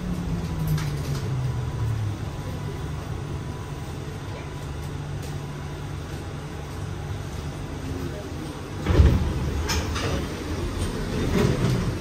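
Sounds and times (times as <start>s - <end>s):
shuttle train drive hum: 0.0s - 12.0s.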